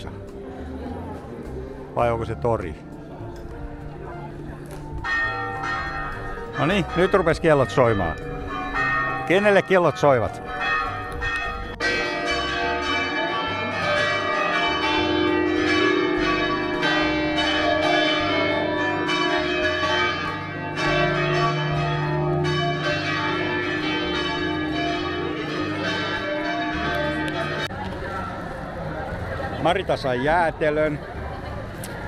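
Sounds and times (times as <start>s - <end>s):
church bells ringing: 2.6s - 28.6s.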